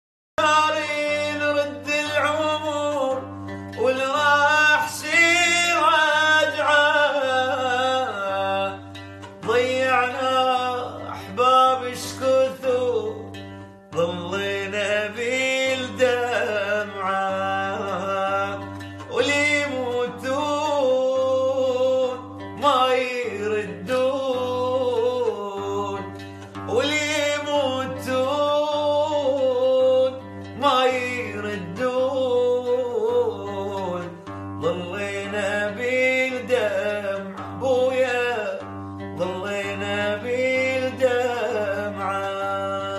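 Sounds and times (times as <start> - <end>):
instrumental accompaniment: 0.4 - 42.9
man singing ornamented phrases: 0.4 - 42.9.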